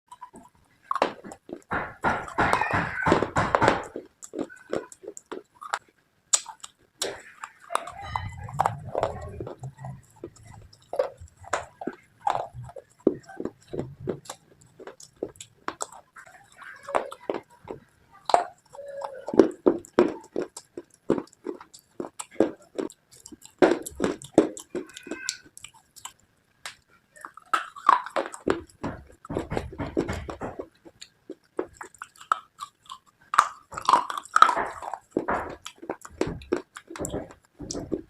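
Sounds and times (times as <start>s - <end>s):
chewing brittle slate: 0.1s - 38.0s.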